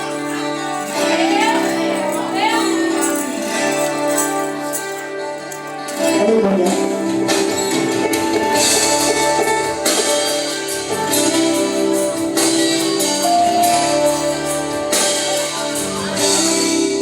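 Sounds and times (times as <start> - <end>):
band playing worship music: 0.0 - 17.0
guitar: 0.0 - 17.0.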